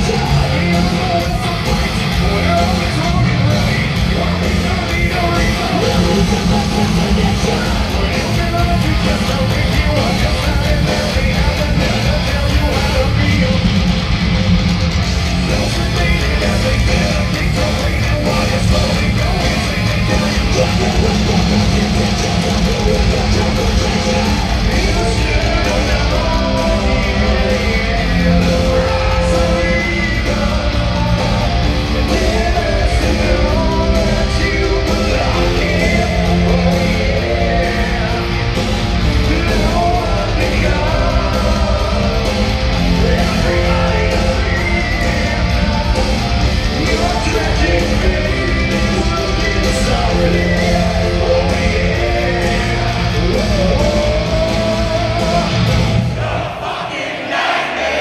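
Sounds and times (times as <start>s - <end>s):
melodic line over band: 0.0s - 56.1s
heavy metal band playing live: 0.0s - 58.0s.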